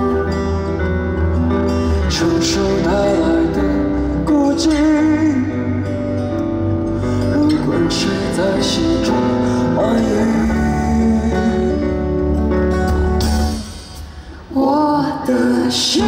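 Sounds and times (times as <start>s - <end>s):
live band playing pop ballad: 0.0s - 16.0s
person singing: 0.0s - 16.0s.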